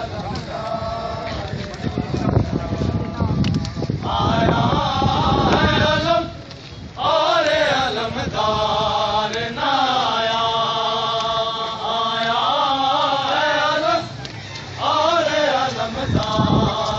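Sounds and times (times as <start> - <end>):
men chanting a lament: 0.0 - 16.9.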